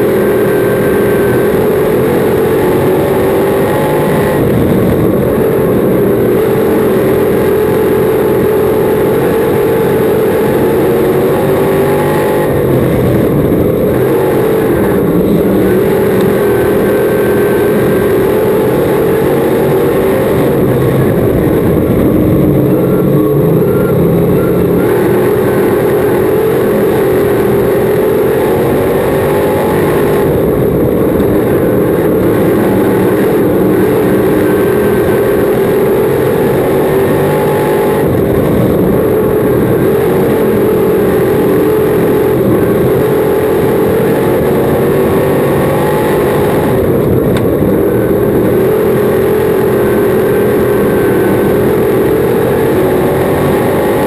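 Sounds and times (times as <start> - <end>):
racing engine drone: 0.0 - 54.0.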